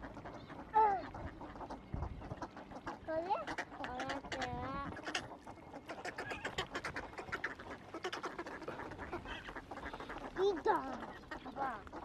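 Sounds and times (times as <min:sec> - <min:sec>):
swans honking: 0:00.0 - 0:12.0.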